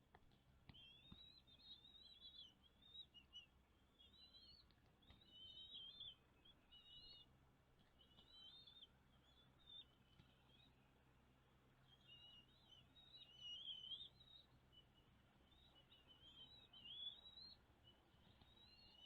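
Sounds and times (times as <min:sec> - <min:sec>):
small bird twittering: 0:00.7 - 0:07.3, 0:08.0 - 0:10.8, 0:11.8 - 0:19.0.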